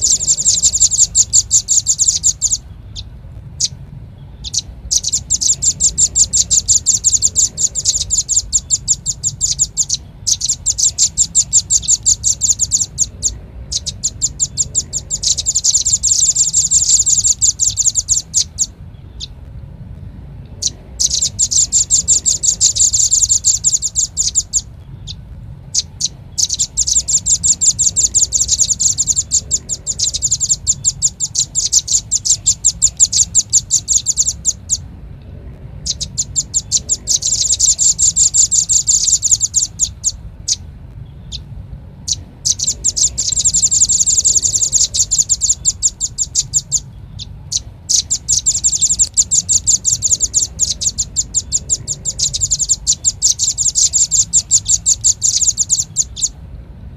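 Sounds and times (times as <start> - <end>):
nuthatch chip trills: 0.0 - 56.4
low hum: 0.0 - 56.9.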